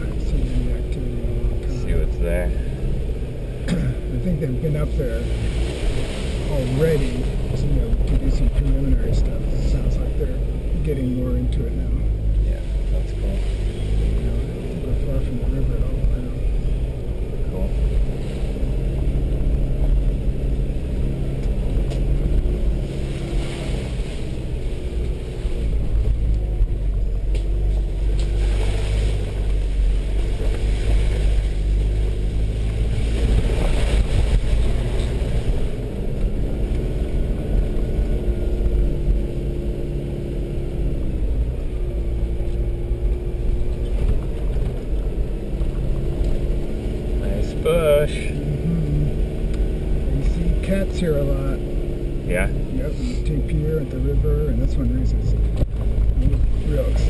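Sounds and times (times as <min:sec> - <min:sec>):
rumble over rough dirt track: 0:00.0 - 0:57.0
vehicle engine running: 0:00.0 - 0:57.0.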